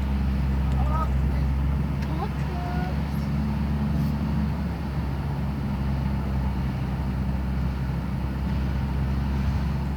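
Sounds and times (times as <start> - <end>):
vehicle engine droning: 0.0 - 9.9.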